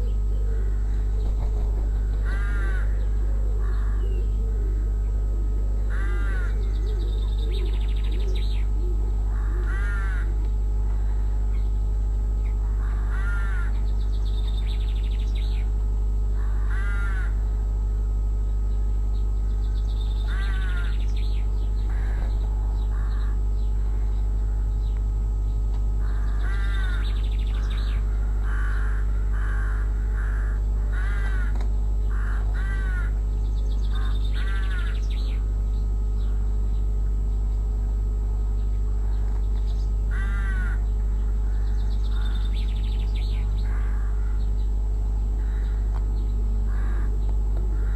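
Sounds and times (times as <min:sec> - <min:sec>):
crows cawing: 0:00.0 - 0:05.1, 0:05.8 - 0:11.6, 0:12.3 - 0:17.6, 0:19.6 - 0:25.0, 0:25.9 - 0:35.6, 0:39.0 - 0:47.9
low electrical hum: 0:00.0 - 0:47.9.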